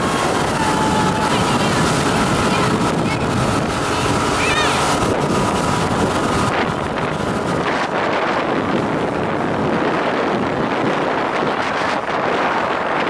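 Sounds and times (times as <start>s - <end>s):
motorboat engine at high speed: 0.0s - 13.0s
wind buffeting microphone: 0.0s - 13.0s.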